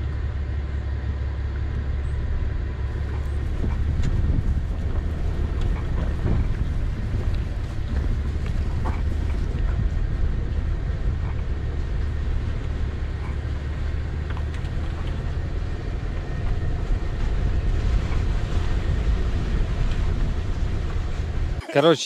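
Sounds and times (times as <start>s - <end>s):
car engine low rumble: 0.0s - 22.0s
tyres on snowy dirt track: 0.0s - 22.0s.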